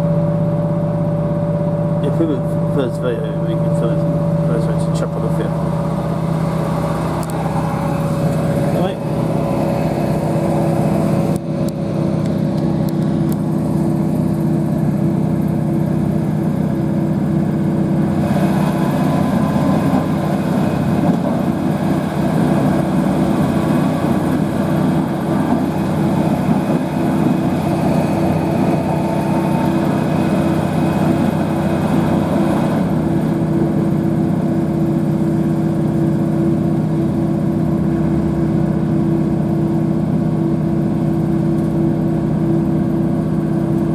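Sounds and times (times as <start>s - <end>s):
diesel engine drone: 0.0s - 43.9s.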